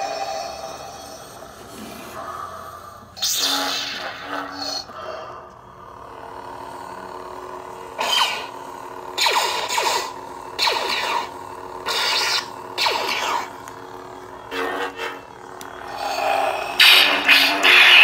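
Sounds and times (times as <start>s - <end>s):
lightsaber effects with falling whine: 0.0s - 5.0s, 7.7s - 18.0s
lightsaber hum: 0.0s - 18.0s.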